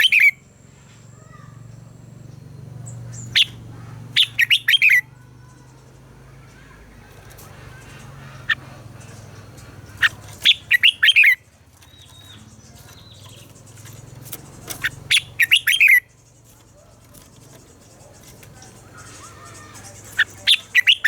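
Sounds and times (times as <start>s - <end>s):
bird singing whistled notes: 0.0s - 6.0s, 7.7s - 21.0s.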